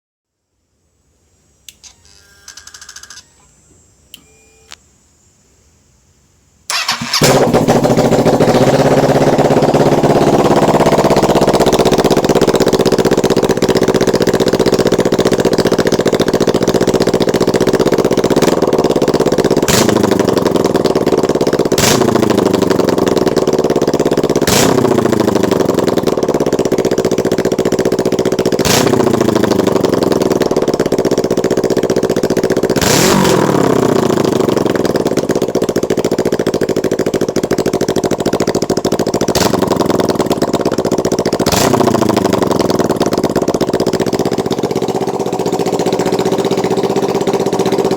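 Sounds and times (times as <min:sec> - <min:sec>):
exhaust cracks: 0:06.7 - 0:47.9
motorcycle engine idling and revving: 0:06.7 - 0:47.9.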